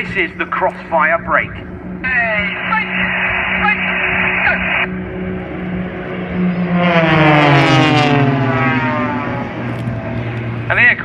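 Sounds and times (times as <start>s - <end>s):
propeller aircraft passing low: 0.0s - 11.0s.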